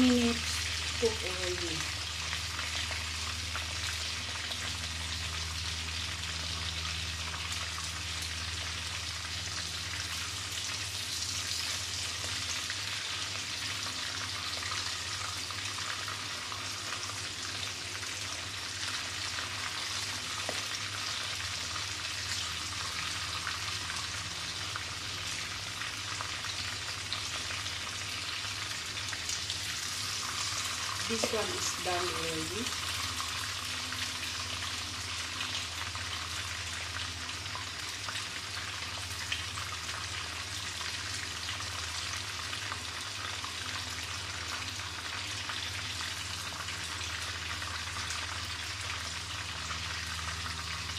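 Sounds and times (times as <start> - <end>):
prawns sizzling in hot oil: 0.0 - 50.9.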